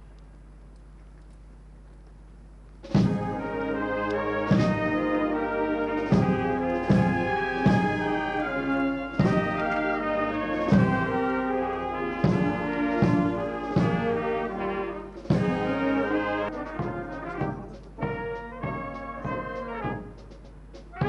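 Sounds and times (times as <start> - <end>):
heavy drum beats: 2.8 - 21.0
military brass band playing: 2.8 - 21.0.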